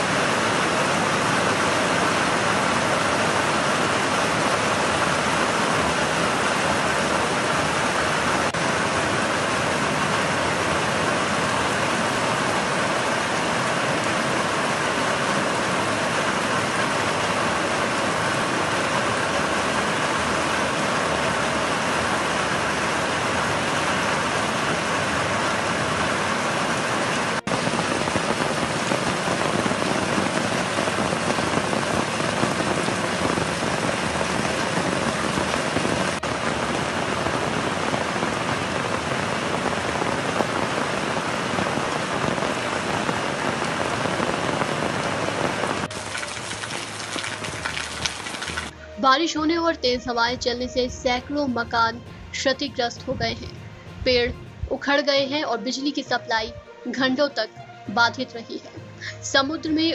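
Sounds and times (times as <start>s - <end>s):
heavy rain on pavement and trees: 0.0s - 48.9s.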